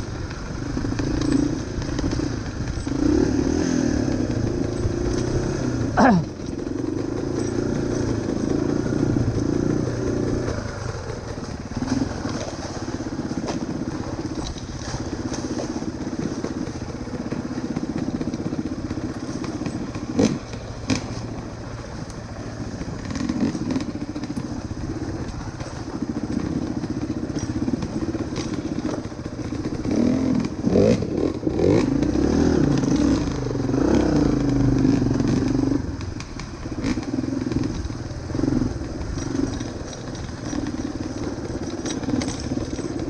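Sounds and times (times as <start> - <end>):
bike clattering over rough ground: 0.0 - 43.0
dirt bike engine: 0.0 - 43.0.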